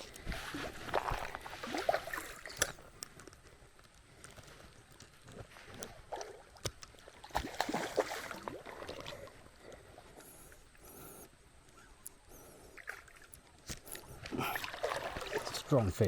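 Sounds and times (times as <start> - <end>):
water sloshing and splashing: 0.0 - 10.6, 12.6 - 16.0.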